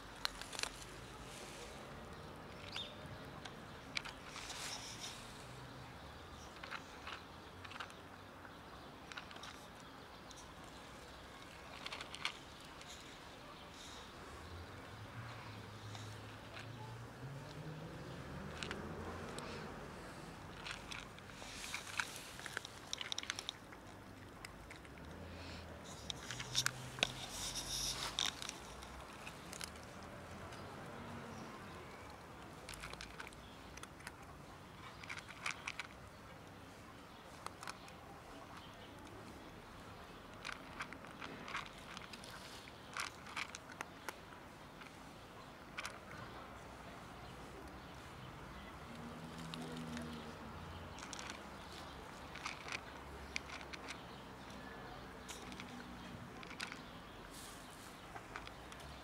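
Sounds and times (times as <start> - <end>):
cat crunching dry food: 0.0 - 5.4, 6.1 - 8.1, 9.0 - 13.2, 15.7 - 59.0.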